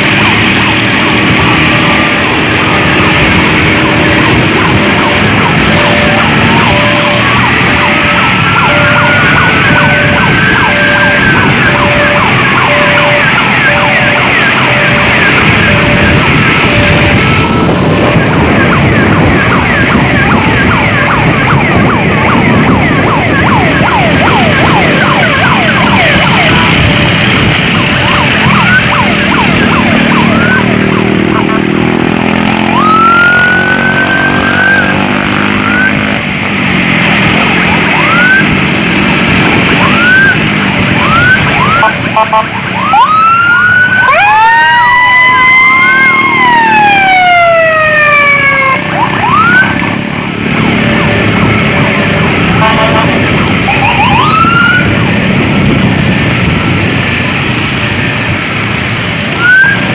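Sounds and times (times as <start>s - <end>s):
electronic emergency sirens: 0.0s - 59.9s
traffic and engine noise: 0.0s - 59.9s.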